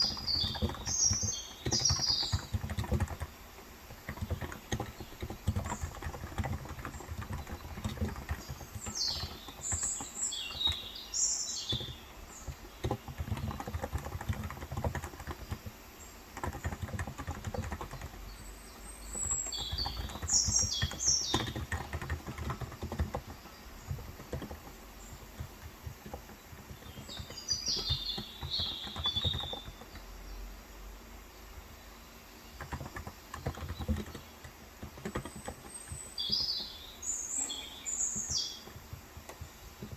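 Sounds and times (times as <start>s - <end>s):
soft keyboard typing: 0.0s - 30.3s, 32.4s - 39.9s
birds chirping: 0.0s - 39.9s.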